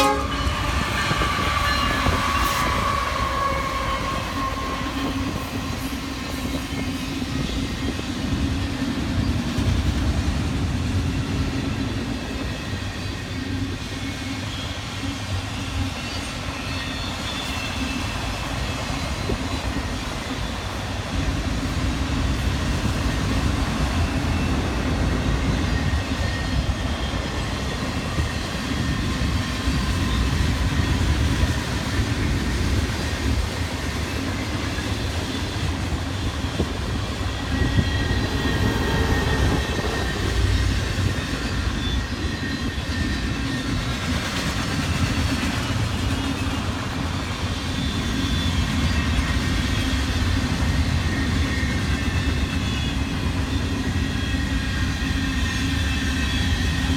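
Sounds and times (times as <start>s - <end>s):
train cars rumbling on rails: 0.0s - 56.9s.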